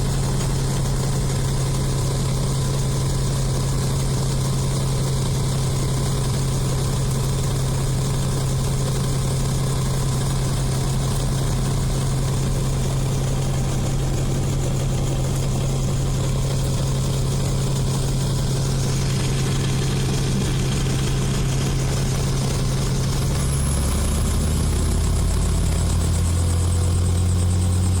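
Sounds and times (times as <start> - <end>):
helicopter engine and rotor drone: 0.0 - 28.0.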